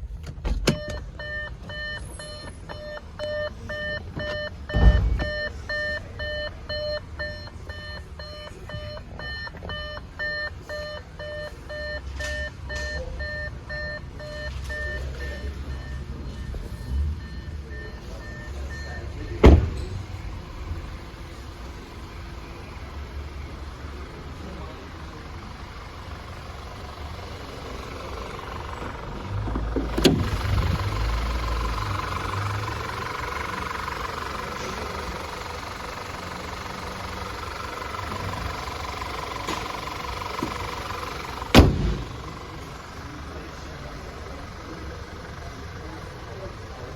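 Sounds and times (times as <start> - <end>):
car engine rumbling: 0.0 - 46.9.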